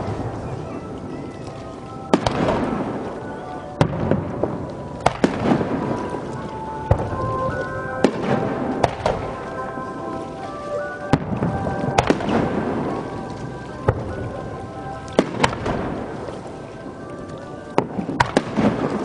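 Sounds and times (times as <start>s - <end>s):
crackling rumble: 0.0s - 19.0s
music over loudspeakers: 1.6s - 19.0s
fireworks bangs: 2.1s - 16.6s, 17.7s - 19.0s.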